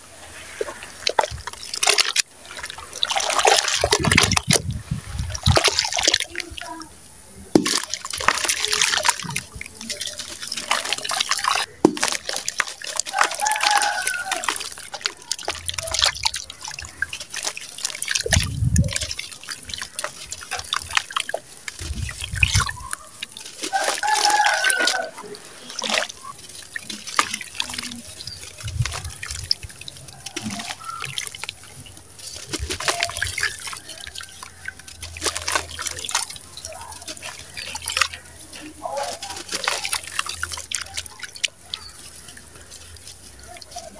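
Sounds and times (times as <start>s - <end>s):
grit crackling into water: 0.0s - 43.9s
water splashing and dripping: 0.0s - 43.9s.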